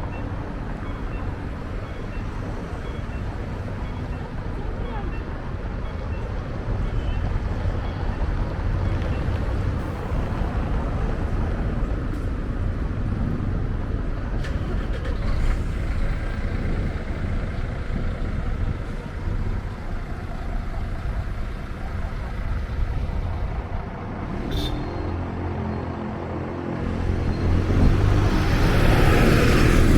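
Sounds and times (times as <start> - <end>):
traffic rumble: 0.0 - 29.9.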